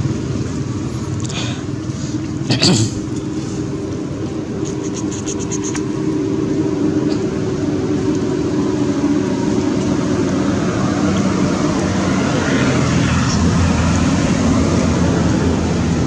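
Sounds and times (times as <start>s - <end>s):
low rumble with droning hum: 0.0s - 16.0s.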